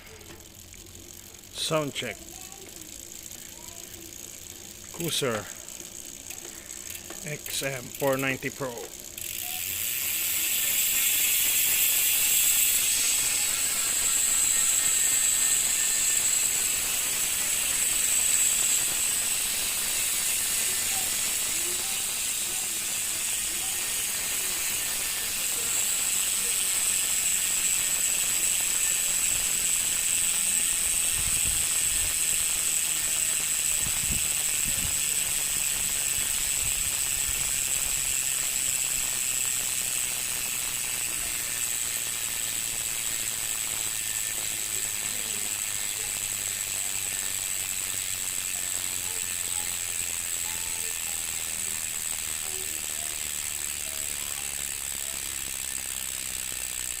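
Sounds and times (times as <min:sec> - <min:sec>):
bicycle hub freewheeling buzz: 0:00.0 - 0:57.0.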